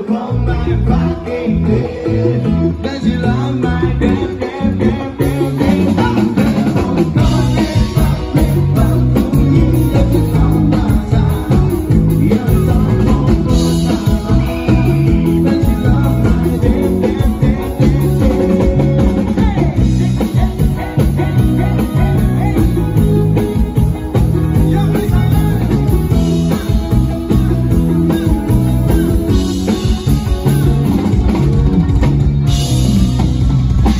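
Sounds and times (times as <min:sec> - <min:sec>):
person singing: 0:00.0 - 0:31.1
bass guitar: 0:00.0 - 0:33.9
drum kit: 0:00.0 - 0:33.9
electric guitar: 0:00.0 - 0:33.9.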